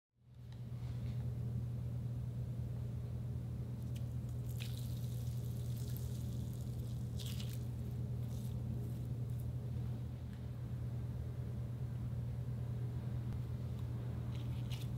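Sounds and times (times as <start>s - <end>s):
low hum: 0.2s - 14.9s.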